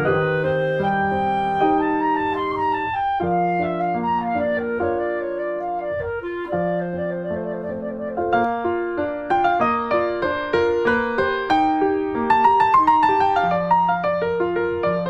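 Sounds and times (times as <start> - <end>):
slow instrumental music: 0.0 - 13.5.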